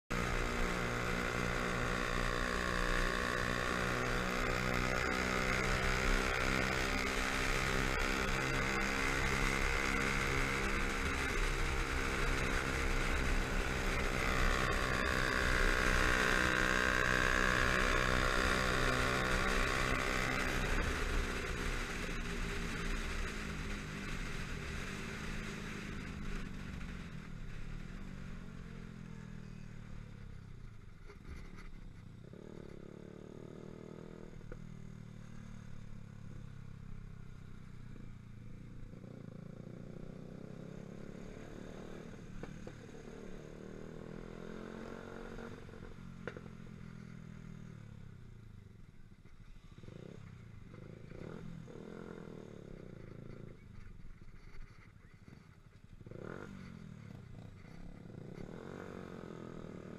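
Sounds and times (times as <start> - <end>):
motorcycle engine cruising: 0.1 - 59.9.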